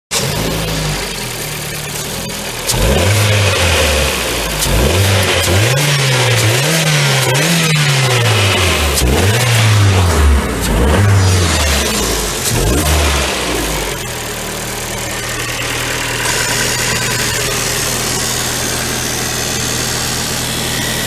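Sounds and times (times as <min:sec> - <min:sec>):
car engine idling and revving: 0:00.1 - 0:21.0.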